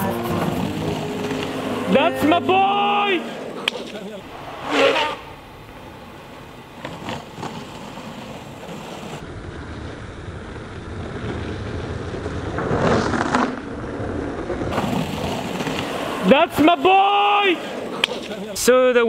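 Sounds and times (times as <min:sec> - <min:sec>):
longboard wheels rolling on asphalt: 0:00.0 - 0:02.0, 0:03.4 - 0:18.6.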